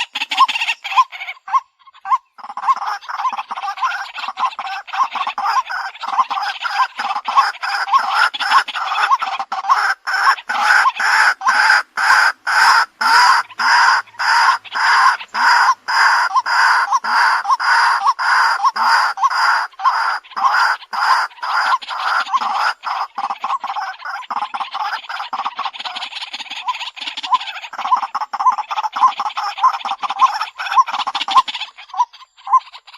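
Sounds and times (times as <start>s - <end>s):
waterhen calling harshly: 0.0s - 32.9s.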